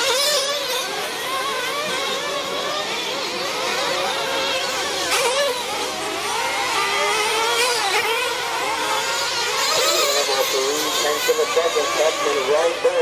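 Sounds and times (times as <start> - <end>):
small rc engines whining: 0.0 - 13.0.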